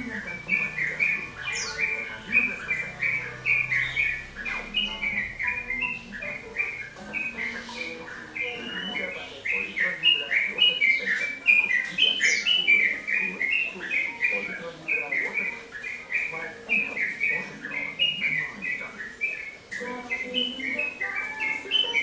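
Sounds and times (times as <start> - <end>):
bird singing chattering notes: 0.0 - 22.0.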